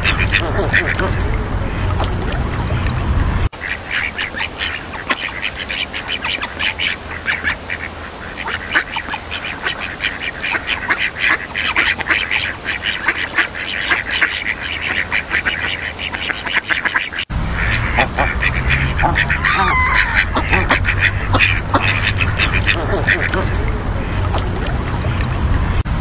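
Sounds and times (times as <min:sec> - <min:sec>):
ducks quacking: 0:00.0 - 0:25.8.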